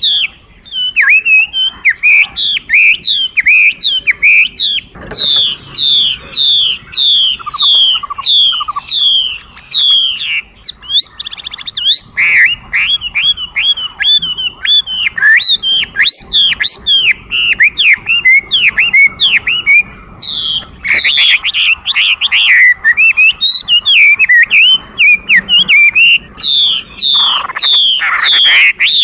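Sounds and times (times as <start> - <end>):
bird singing whistled phrases: 0.0 - 29.0.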